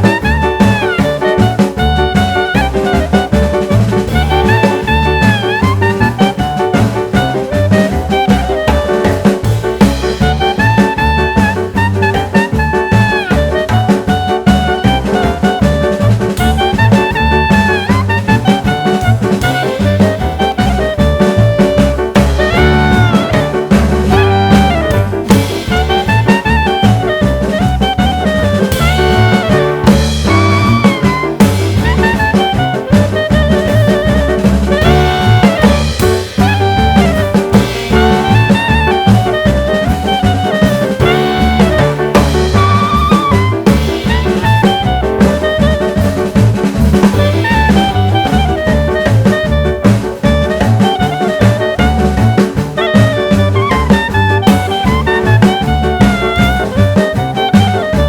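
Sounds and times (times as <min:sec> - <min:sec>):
bass: 0:00.0 - 0:58.0
swing drum beat: 0:00.0 - 0:58.0
upbeat jazz music with saxophone: 0:00.0 - 0:58.0.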